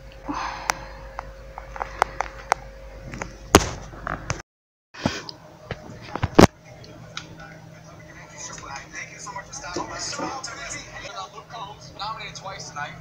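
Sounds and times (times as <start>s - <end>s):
faint steady hum: 0.0s - 4.4s, 5.0s - 13.0s.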